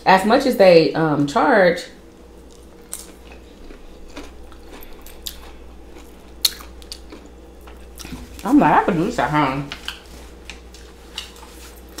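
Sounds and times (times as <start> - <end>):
faint low hum: 0.0 - 12.0
chewing crunchy fried food: 2.0 - 12.0.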